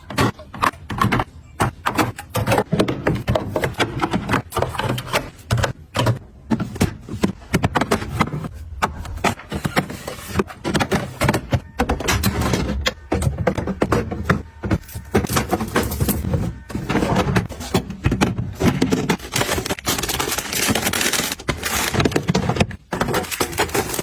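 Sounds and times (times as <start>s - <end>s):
hard items clicking and knocking: 0.0s - 24.0s.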